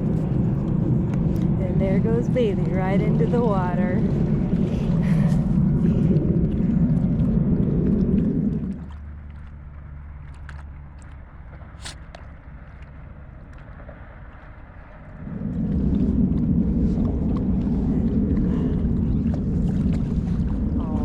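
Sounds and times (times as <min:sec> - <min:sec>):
faint low hum: 0:00.0 - 0:21.0
wind rumbling on microphone: 0:00.0 - 0:21.0.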